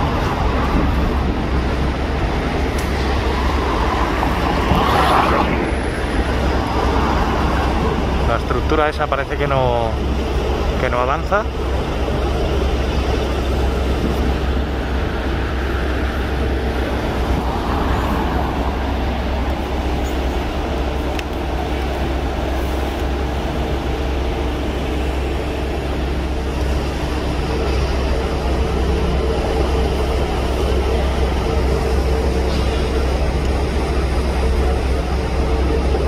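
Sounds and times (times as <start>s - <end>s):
engine rumble: 0.0s - 36.0s.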